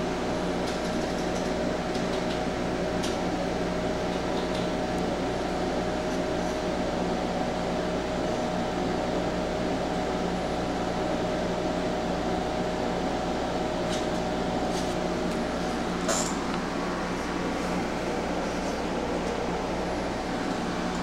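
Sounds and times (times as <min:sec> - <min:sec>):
mechanical hum and hiss: 0:00.0 - 0:21.0.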